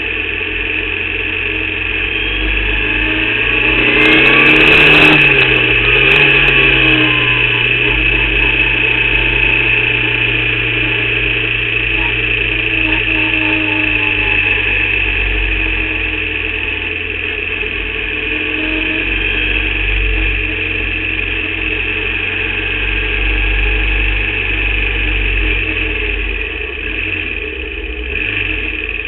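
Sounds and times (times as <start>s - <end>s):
race car engine running: 0.0s - 29.0s.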